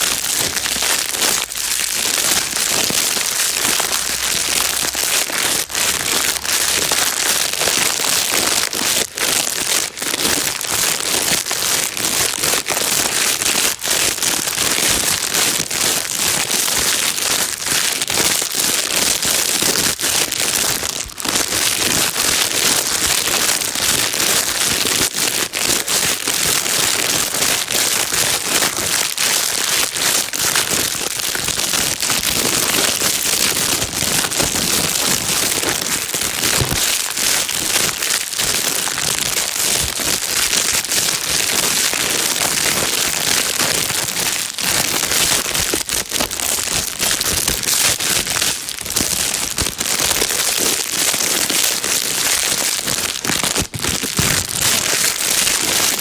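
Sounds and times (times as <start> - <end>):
plastic bag crinkling: 0.0 - 56.0.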